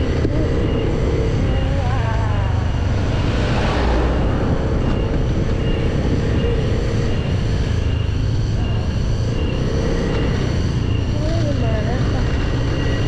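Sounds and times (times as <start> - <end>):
motorcycle engine: 0.0 - 13.0
wind rumble on microphone: 0.0 - 13.0.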